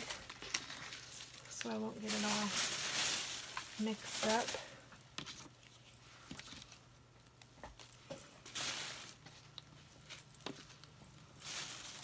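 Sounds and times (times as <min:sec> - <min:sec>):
bag rustling: 0:00.0 - 0:06.8, 0:07.8 - 0:12.0.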